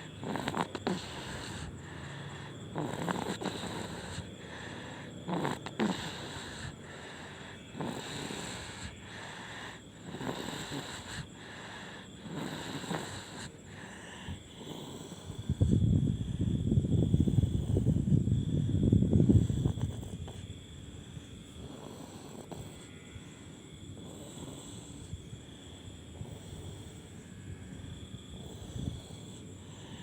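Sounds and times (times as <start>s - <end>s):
baby snoring: 0.0s - 20.6s, 21.2s - 27.2s, 28.3s - 30.0s.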